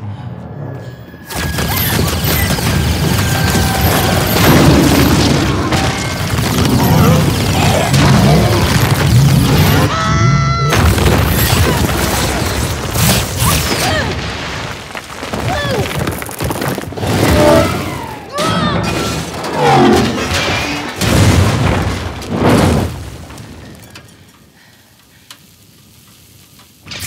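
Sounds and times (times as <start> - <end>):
booms and crashes: 1.3 - 10.0, 10.6 - 24.1.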